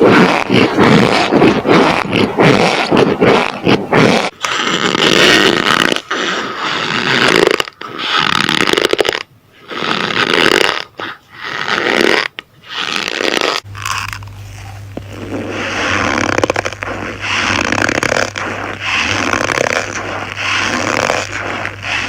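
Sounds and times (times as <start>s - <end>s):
brittle gritty material crunching: 0.0s - 22.0s.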